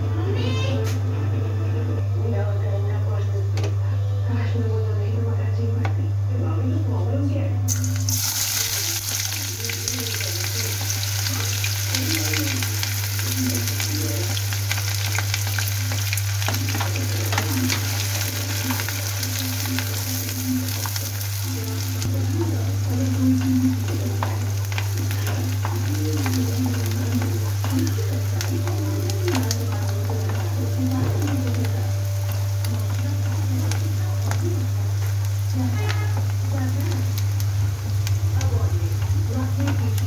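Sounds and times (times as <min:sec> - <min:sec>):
steady low hum: 0:00.0 - 0:40.0
onions sizzling in oil: 0:07.7 - 0:40.0.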